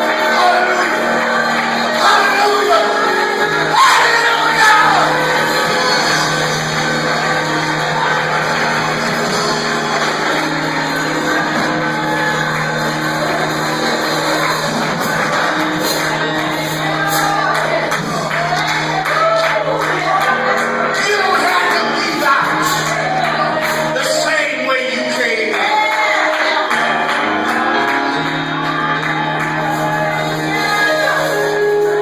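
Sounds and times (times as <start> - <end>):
church music with held chords: 0.0 - 32.0
voices shouting and singing: 0.0 - 32.0.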